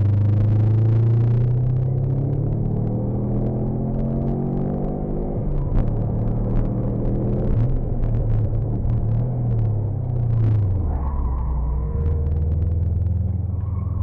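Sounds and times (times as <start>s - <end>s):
car engine heard from cabin: 0.0s - 14.0s
sharp clicks and knocks: 1.7s - 13.8s.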